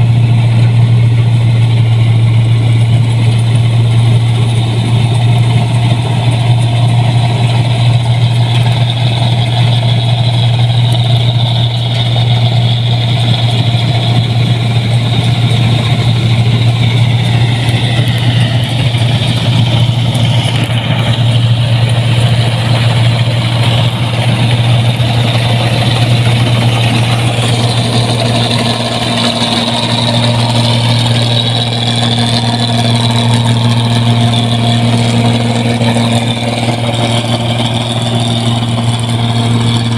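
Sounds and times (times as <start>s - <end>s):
harvester engine hum: 0.0s - 39.9s
machinery noise: 0.0s - 39.9s
steady higher tone: 0.0s - 39.9s.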